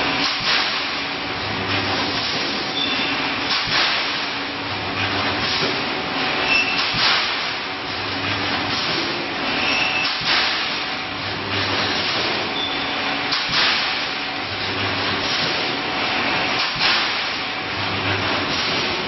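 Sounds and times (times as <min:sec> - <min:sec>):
welding machine hum: 0:00.0 - 0:19.0.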